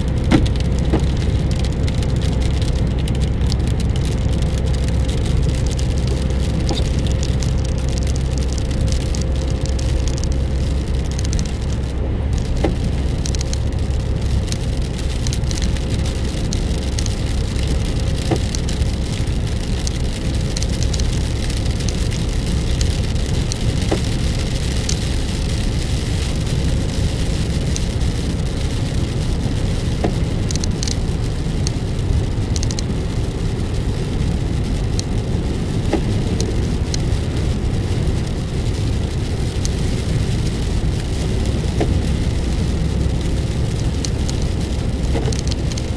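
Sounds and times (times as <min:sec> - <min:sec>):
car engine and road noise: 0:00.0 - 0:45.9
raindrops ticking on windscreen: 0:00.0 - 0:45.9
tyres on wet road: 0:00.0 - 0:45.9.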